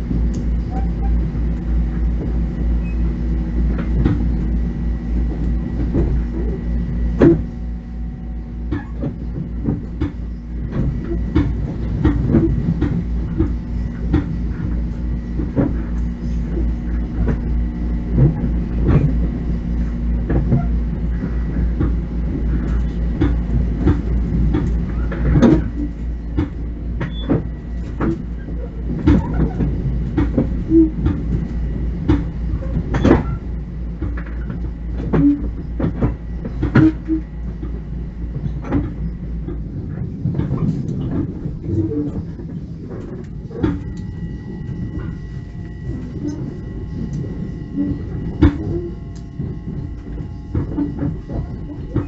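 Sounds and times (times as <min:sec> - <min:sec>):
faint steady whine: 0:00.0 - 0:52.0
train interior rumble: 0:00.0 - 0:52.0.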